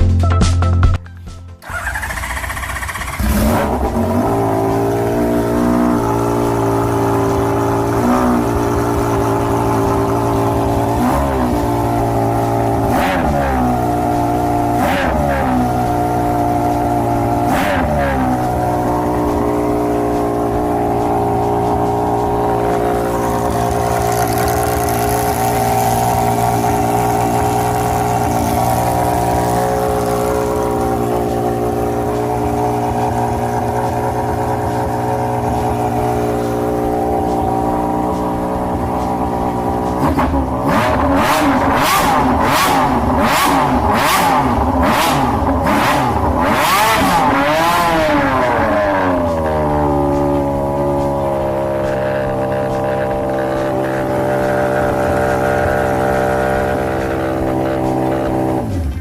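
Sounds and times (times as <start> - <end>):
engine idling and revving: 1.6 - 59.0.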